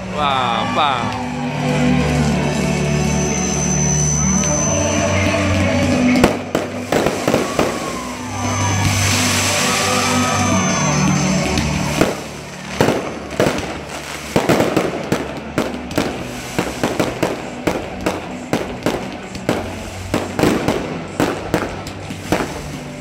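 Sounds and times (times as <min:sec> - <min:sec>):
fireworks bangs and crackling: 0:02.0 - 0:23.0.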